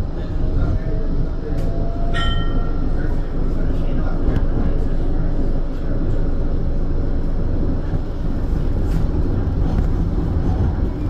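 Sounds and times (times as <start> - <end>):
tram wheels rumbling on track: 0.0 - 11.0.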